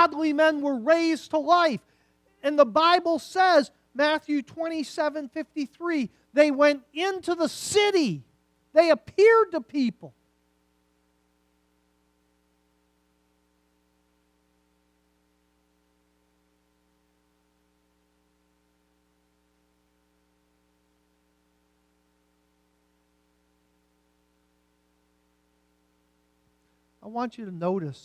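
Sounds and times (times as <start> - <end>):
faint electrical mains hum: 0.0 - 28.0.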